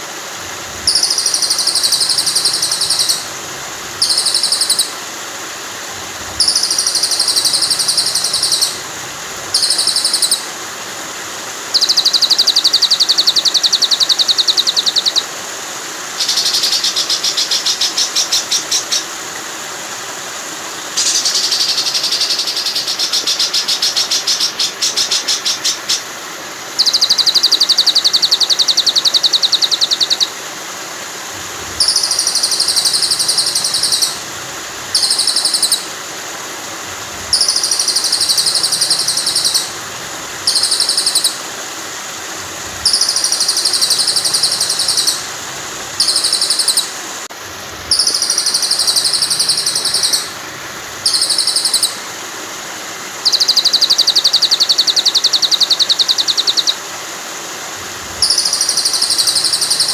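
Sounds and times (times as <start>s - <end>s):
running water hiss: 0.0s - 59.9s
songbird buzzy rattling trills: 0.0s - 59.9s.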